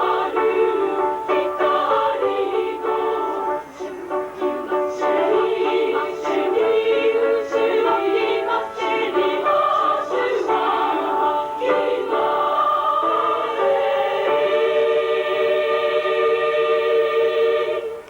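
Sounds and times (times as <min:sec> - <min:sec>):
voices singing slow melody: 0:00.0 - 0:18.0.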